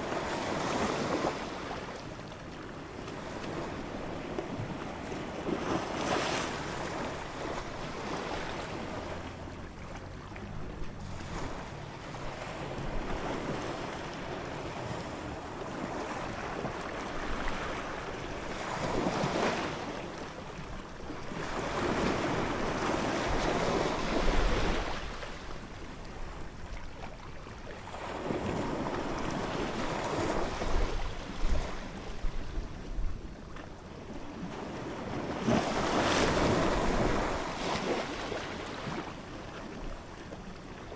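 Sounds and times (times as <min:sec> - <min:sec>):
ocean waves breaking: 0:00.0 - 0:32.6, 0:34.0 - 0:40.9.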